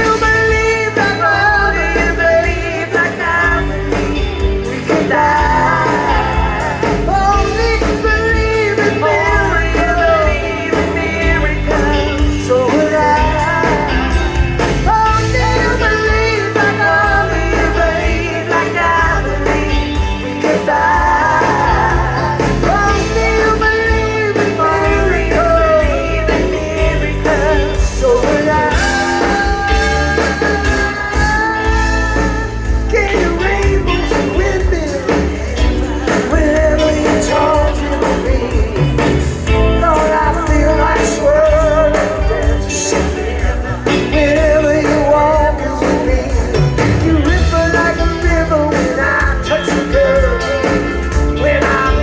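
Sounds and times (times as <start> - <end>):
lead singer singing: 0.0 - 52.0
live rock band playing: 0.0 - 52.0
steady bass line: 0.0 - 52.0.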